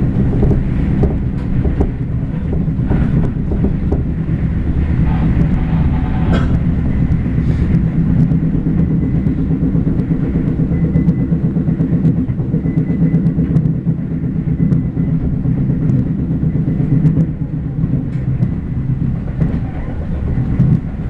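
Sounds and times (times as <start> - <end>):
faint steady whine: 0.0 - 21.0
train rumbling: 0.0 - 21.0
rapid clattering knock: 0.4 - 21.0.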